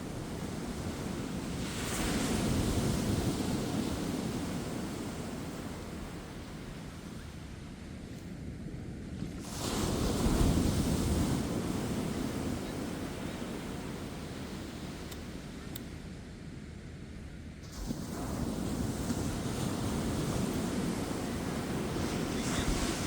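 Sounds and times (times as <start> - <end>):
ocean waves crashing on beach: 0.0 - 7.1, 9.3 - 15.5, 17.6 - 23.0.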